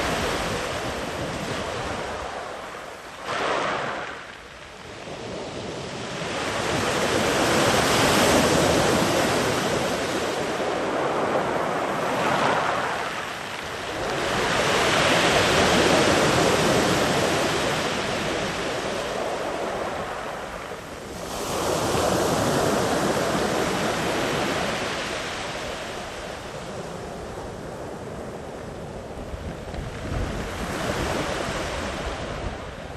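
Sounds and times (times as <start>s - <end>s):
sea waves breaking on beach: 0.0s - 32.9s.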